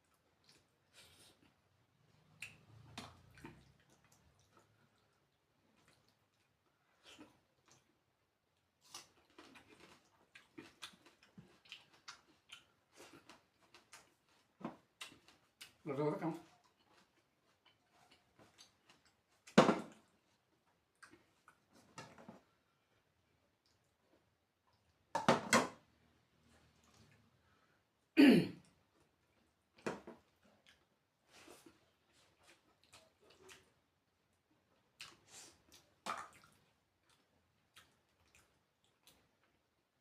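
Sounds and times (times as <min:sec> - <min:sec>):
mouth chewing food: 0:00.0 - 0:25.0, 0:28.6 - 0:40.0.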